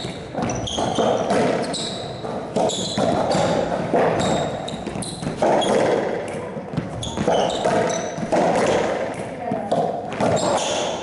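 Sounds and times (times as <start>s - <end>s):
court shoes squeaking on floor: 0.0s - 11.0s.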